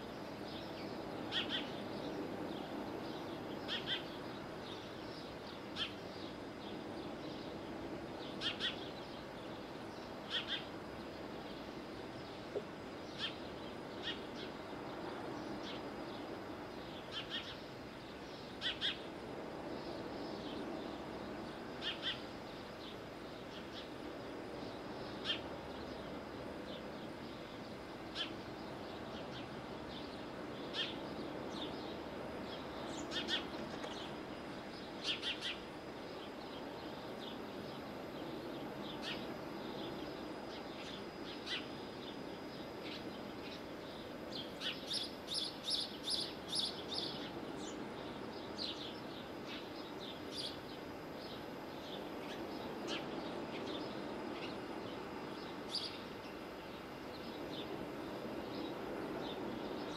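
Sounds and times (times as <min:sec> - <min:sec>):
low background noise: 0:00.0 - 0:59.9.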